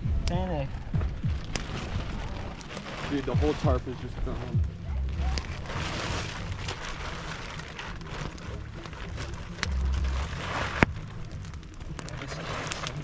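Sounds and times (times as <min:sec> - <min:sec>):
campfire crackling and popping: 0:00.0 - 0:13.0
rain: 0:00.0 - 0:13.0.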